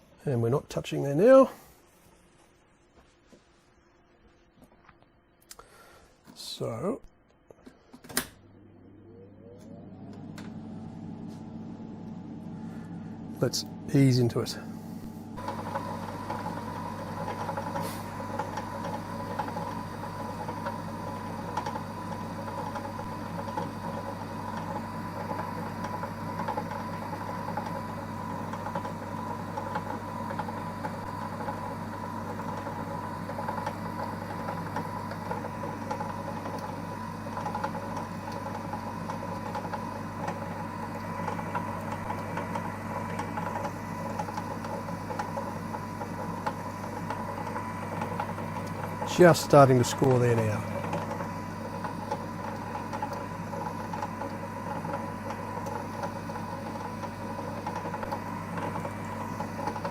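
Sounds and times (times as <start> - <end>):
lathe motor humming and whining: 8.4 - 59.9.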